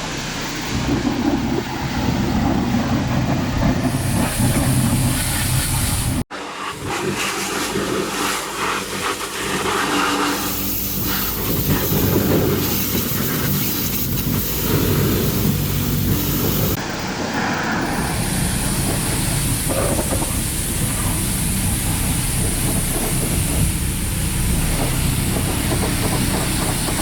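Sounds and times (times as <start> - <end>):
machine hissing and humming: 0.0 - 27.0.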